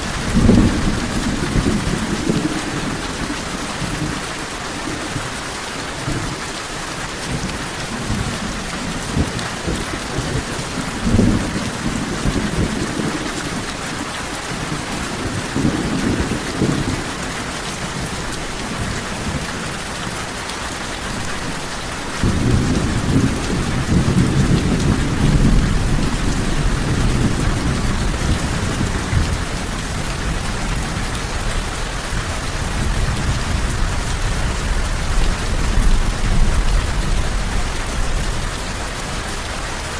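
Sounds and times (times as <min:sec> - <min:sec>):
thunder rumbling: 0:00.0 - 0:05.4, 0:07.2 - 0:20.2, 0:22.1 - 0:39.4
heavy rain: 0:00.0 - 0:39.9.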